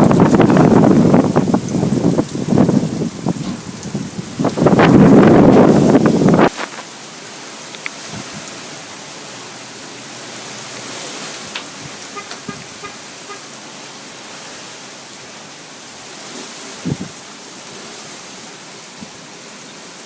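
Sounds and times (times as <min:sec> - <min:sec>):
wind and blowing sand: 0:00.0 - 0:20.0.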